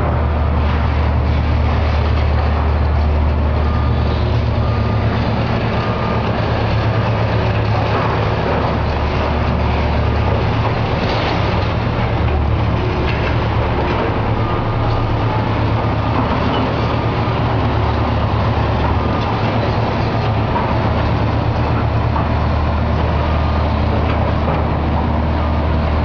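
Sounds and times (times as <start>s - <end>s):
demolition machinery engine drone: 0.0s - 26.0s.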